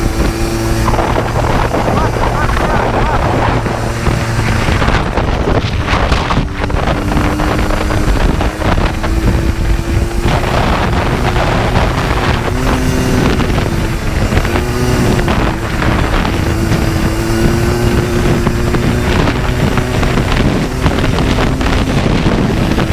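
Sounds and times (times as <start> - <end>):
atv engine running at speed: 0.0 - 22.9
wind rushing over microphone: 0.0 - 22.9.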